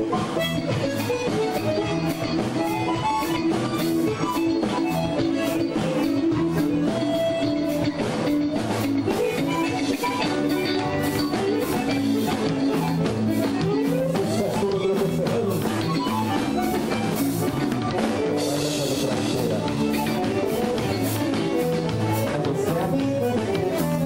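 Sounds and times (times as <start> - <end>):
drum kit beat: 0.0 - 24.0
electric bass: 0.0 - 24.0
guitar: 0.0 - 24.0
piano accordion melody: 0.0 - 24.0.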